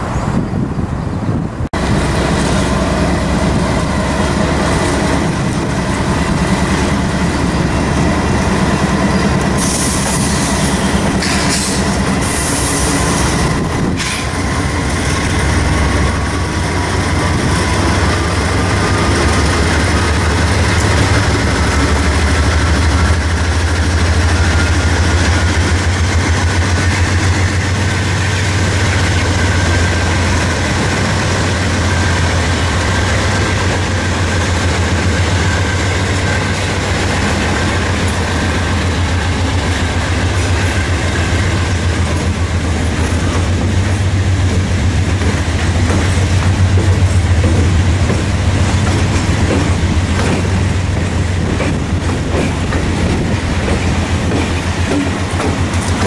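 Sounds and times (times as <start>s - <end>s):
diesel locomotive engines rumbling: 0.0s - 56.0s.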